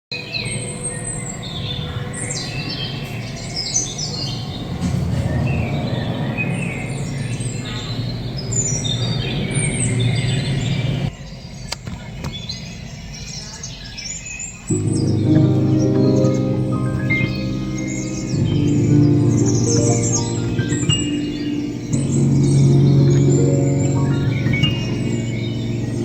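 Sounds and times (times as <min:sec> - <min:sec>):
small birds chirping and trilling: 0:00.2 - 0:26.0.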